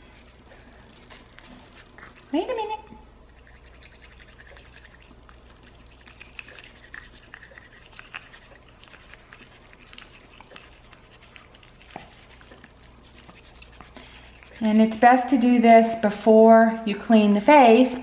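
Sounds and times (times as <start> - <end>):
toothbrush bristles scratching teeth: 0.0 - 15.6.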